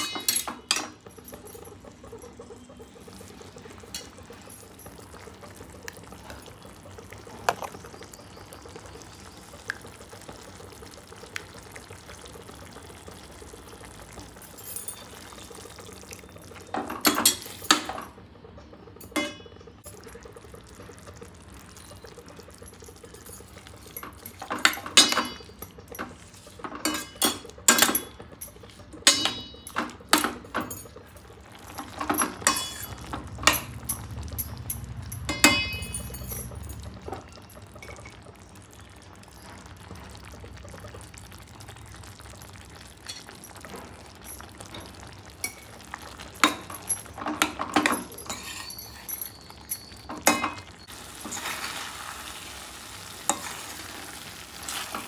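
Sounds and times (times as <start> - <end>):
liquid being poured and stirred: 0.0 - 55.0.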